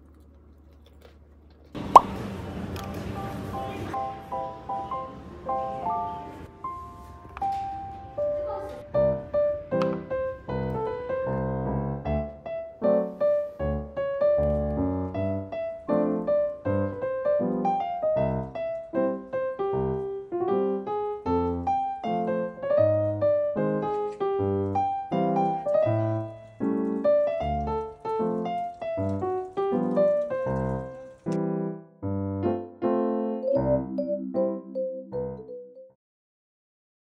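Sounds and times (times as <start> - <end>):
piano music: 1.8 - 36.0.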